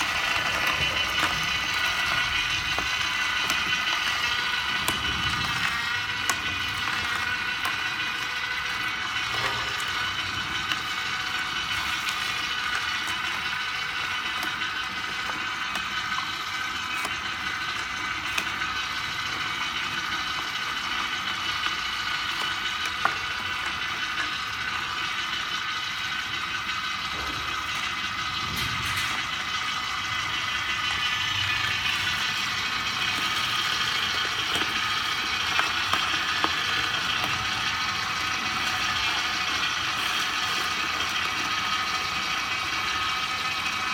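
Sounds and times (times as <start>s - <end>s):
juicer motor whine: 0.0s - 43.9s.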